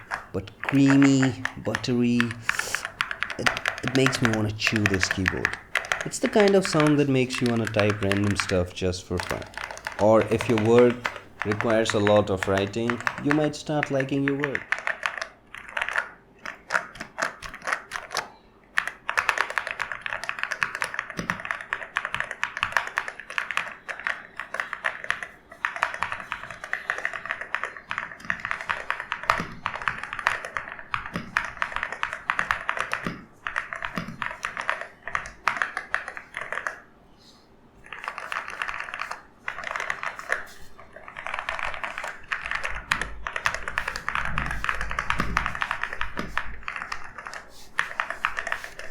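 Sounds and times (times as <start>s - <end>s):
mechanical keyboard typing: 0.0s - 36.9s, 37.9s - 48.9s.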